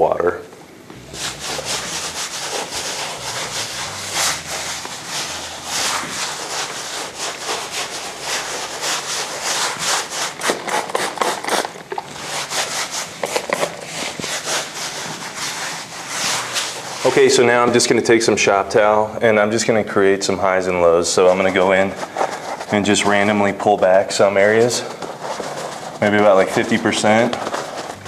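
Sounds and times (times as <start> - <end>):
brush scrubbing rough plaster: 0.9 - 18.1, 20.8 - 28.0.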